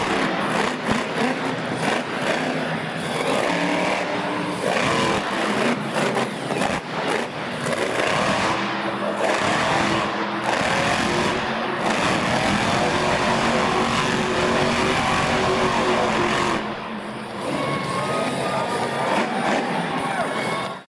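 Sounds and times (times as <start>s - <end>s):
monster truck engine revving: 0.0s - 20.9s.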